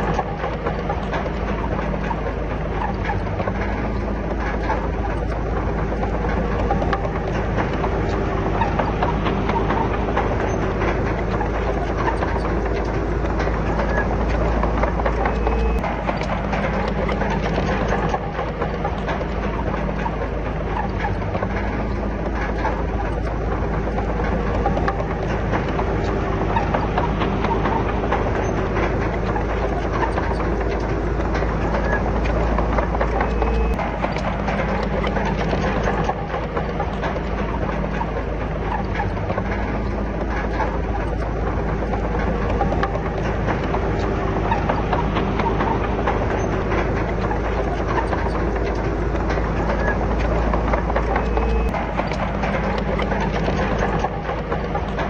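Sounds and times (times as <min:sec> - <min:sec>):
bulldozer diesel engine running: 0:00.0 - 0:55.0
clattering clicks and knocks: 0:00.0 - 0:55.0.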